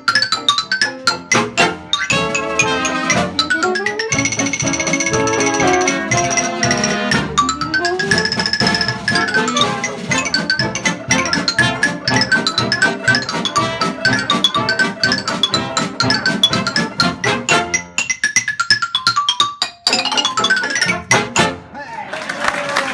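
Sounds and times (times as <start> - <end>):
xylophone runs: 0.0 - 21.6
dance band playing: 0.0 - 21.9.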